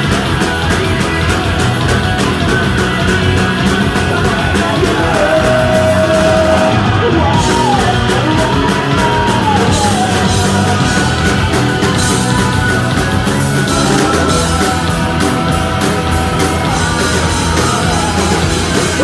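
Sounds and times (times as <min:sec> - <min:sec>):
punk rock band playing: 0:00.0 - 0:19.0
singer yelling: 0:03.6 - 0:19.0.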